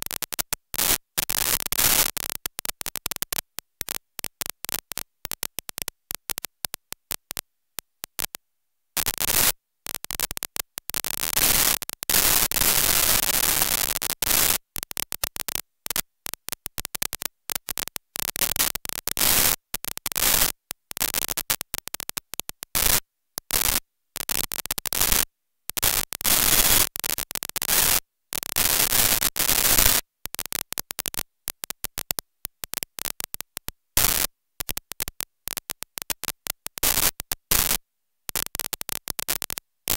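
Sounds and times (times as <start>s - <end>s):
glitching static hiss: 0.0s - 39.9s.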